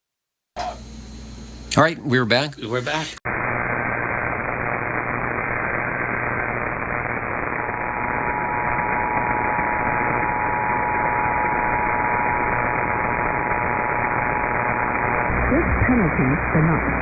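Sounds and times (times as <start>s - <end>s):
radio static hiss: 1.7s - 17.0s.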